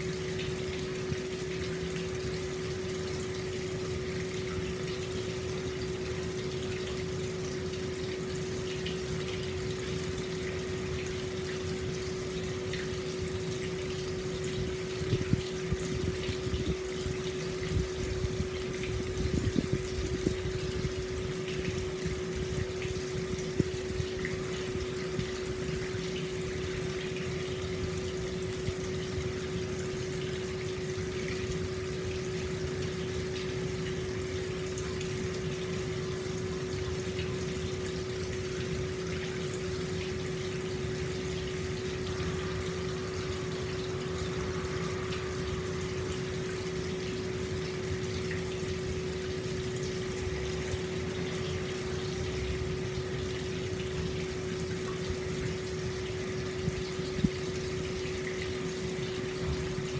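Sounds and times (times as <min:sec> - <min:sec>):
constant low hum: 0:00.0 - 0:59.9
hot spring water gushing: 0:00.0 - 0:59.9.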